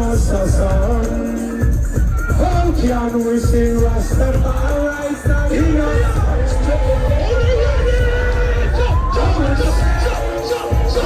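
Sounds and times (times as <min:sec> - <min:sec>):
live reggae band: 0:00.0 - 0:11.0.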